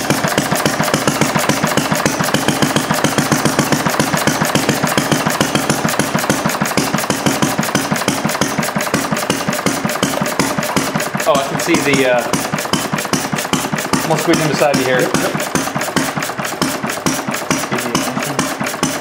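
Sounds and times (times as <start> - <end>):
single-cylinder engine running slowly: 0.0 - 19.0.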